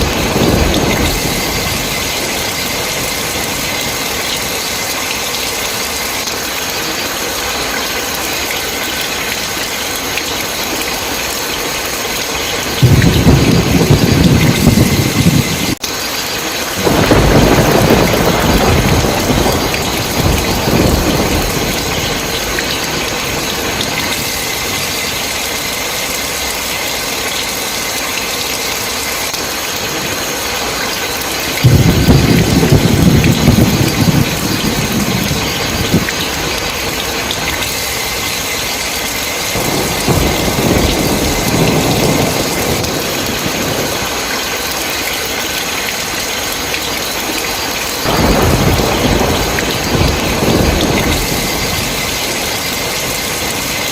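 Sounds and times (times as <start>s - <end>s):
rolling thunder: 0.0s - 6.6s, 8.9s - 25.8s, 31.1s - 53.9s
heavy rain: 0.0s - 53.9s.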